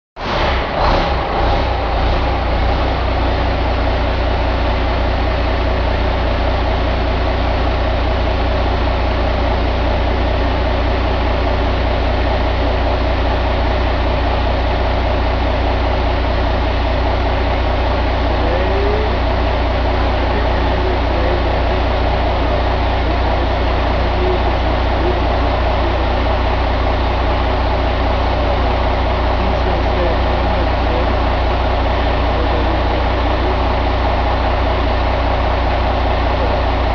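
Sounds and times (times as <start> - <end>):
diesel engine running steadily: 0.2 - 36.9.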